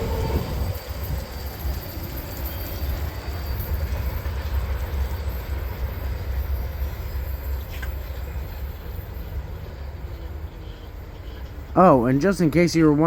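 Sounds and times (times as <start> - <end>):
freight train cars rolling: 0.0 - 13.0.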